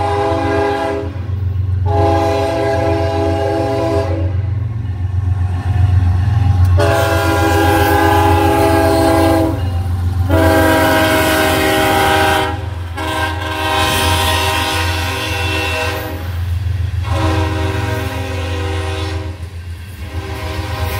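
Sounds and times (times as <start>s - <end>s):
locomotive air horn blasts: 0.0s - 4.4s, 6.7s - 16.4s, 17.0s - 20.9s.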